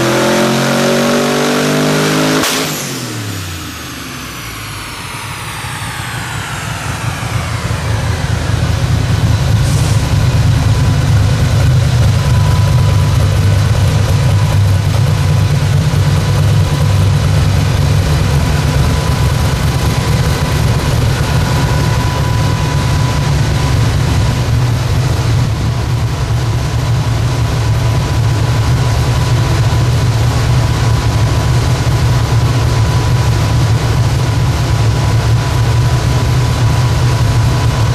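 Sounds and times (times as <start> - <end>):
v eight engine idling: 2.8 - 37.9.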